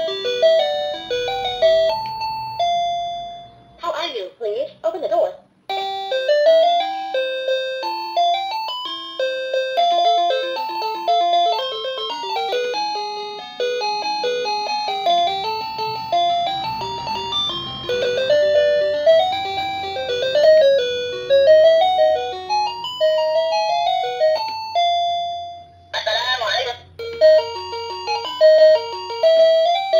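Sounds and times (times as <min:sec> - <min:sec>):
doorbell electronic chime melody: 0:00.0 - 0:03.8, 0:05.7 - 0:29.9.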